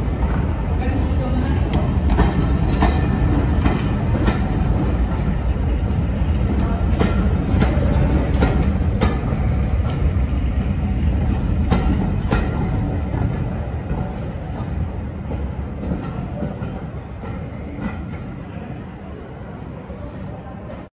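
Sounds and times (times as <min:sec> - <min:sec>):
wheels rumbling on rail: 0:00.0 - 0:20.9.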